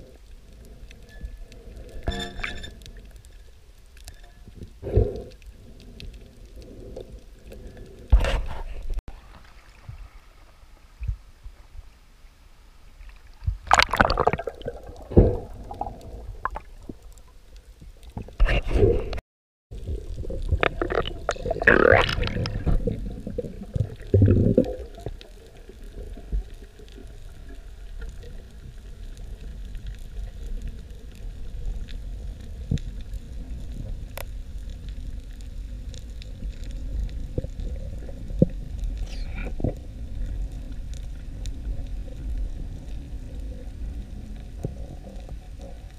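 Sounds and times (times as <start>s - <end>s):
underwater water rumble: 0.0s - 45.9s.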